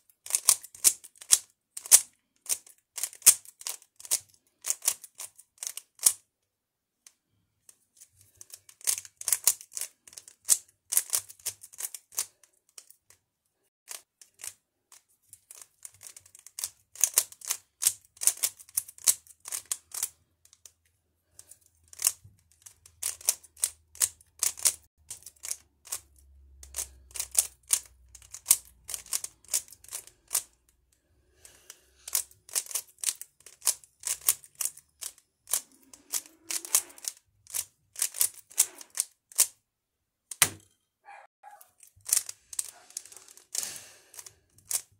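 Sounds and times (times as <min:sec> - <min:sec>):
puzzle cube clicking: 0:00.2 - 0:06.2, 0:08.4 - 0:13.1, 0:15.4 - 0:20.8, 0:21.4 - 0:30.6, 0:31.4 - 0:39.6, 0:41.8 - 0:44.9.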